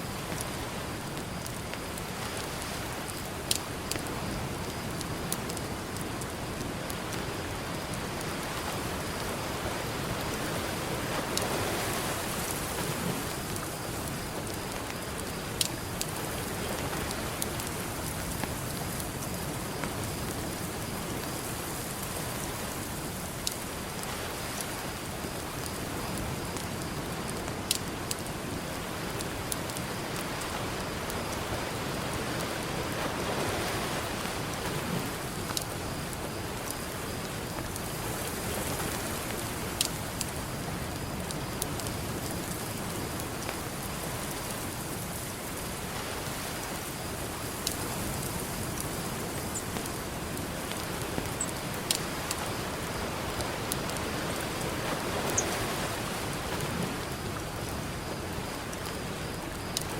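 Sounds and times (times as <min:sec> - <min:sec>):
ocean surf: 0:00.0 - 0:26.4, 0:28.2 - 0:41.2, 0:42.0 - 0:59.9
campfire crackling: 0:00.0 - 0:59.9.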